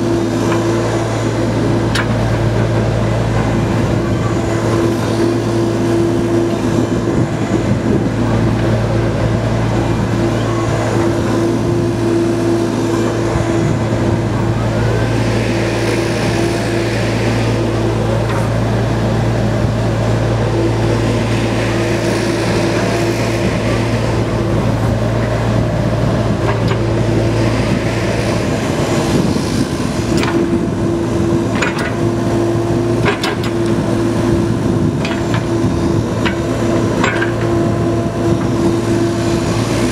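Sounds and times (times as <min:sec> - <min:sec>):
excavator diesel engine running: 0:00.0 - 0:39.9
hydraulics rushing: 0:00.0 - 0:39.9.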